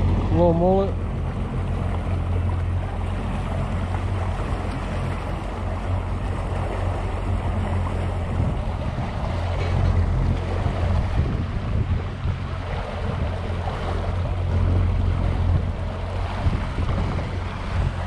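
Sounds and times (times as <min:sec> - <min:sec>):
boat motor humming: 0:00.0 - 0:18.0
wind and water noise: 0:00.0 - 0:18.0.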